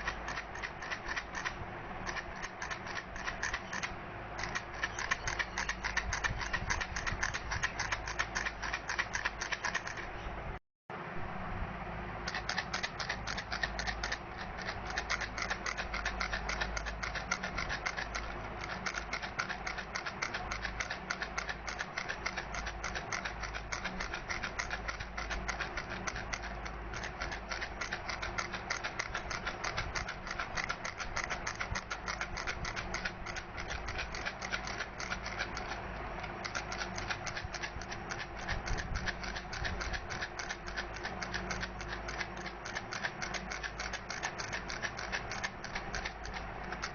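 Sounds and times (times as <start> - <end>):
baby rattle shaking: 0.0 - 10.0, 12.3 - 46.9.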